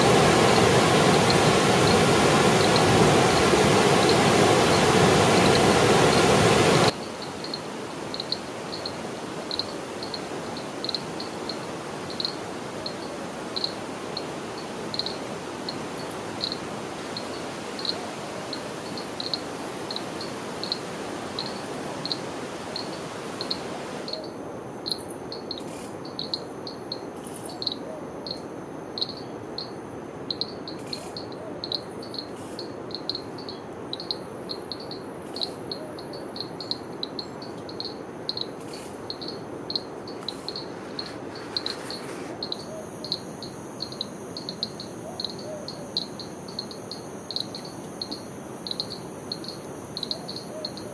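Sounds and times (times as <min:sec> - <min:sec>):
cricket chirping: 0:00.0 - 0:50.9
low background hiss: 0:00.0 - 0:50.9.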